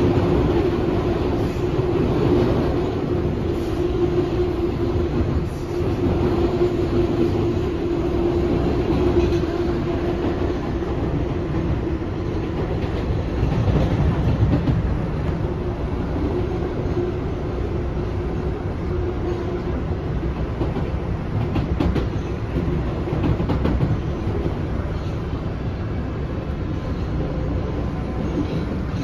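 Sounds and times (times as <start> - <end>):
rumble of wheels on rail: 0.0 - 29.0.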